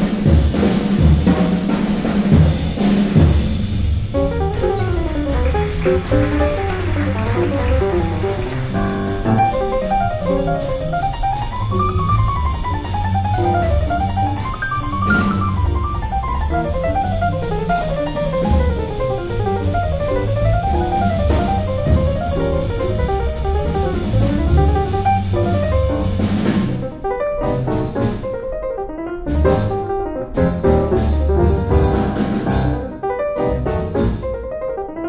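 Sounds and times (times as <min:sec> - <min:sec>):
double bass: 0:00.0 - 0:28.4, 0:29.3 - 0:34.4
drum kit with cymbals: 0:00.0 - 0:28.4, 0:29.3 - 0:29.8, 0:30.4 - 0:34.4
piano runs: 0:04.1 - 0:35.0.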